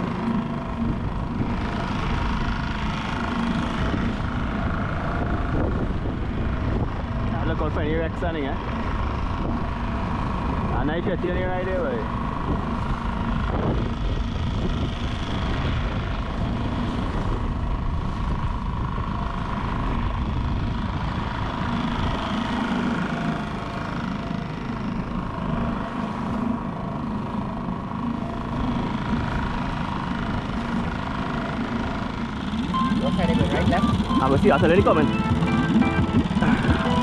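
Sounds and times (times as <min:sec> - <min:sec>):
outboard motor running: 0:00.0 - 0:37.0
wind: 0:00.0 - 0:37.0.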